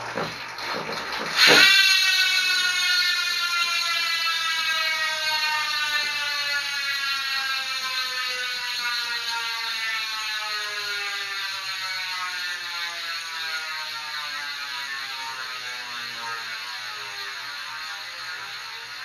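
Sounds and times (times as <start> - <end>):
bicycle hub ratcheting buzz: 0.0 - 19.0.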